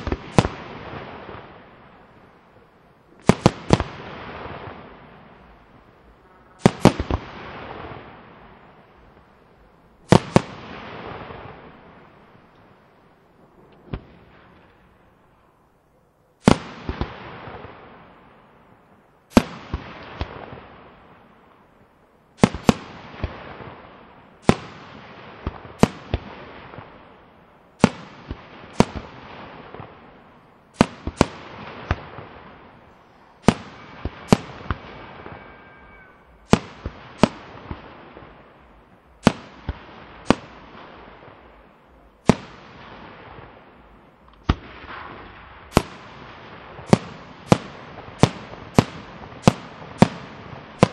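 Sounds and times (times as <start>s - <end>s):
firework crackle: 0.0s - 15.7s, 16.4s - 50.9s.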